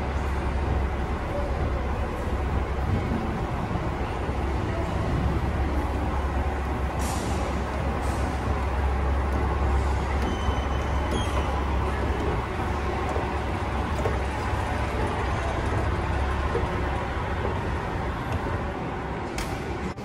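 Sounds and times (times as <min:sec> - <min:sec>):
escalator rumble and hum: 0:00.0 - 0:20.0.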